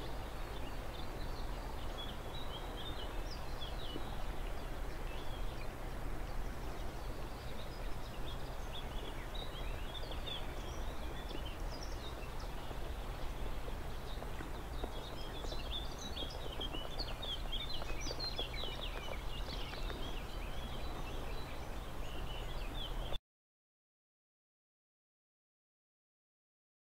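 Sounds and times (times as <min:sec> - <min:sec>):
background rush of noise: 0:00.0 - 0:23.2
small birds chirping: 0:00.0 - 0:23.2.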